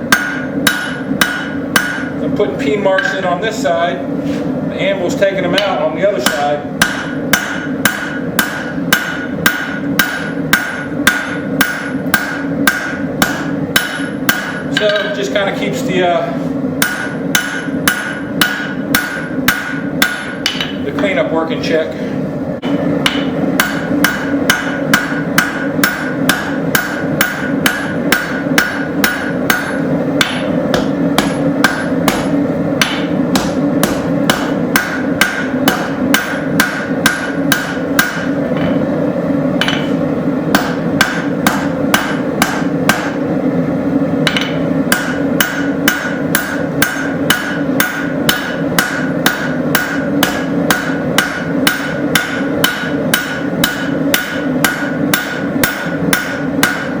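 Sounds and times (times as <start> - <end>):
hammer striking metal on anvil: 0.0 - 2.2, 3.0 - 3.3, 5.5 - 15.3, 16.8 - 21.2, 22.6 - 38.9, 39.6 - 43.2, 44.2 - 57.0.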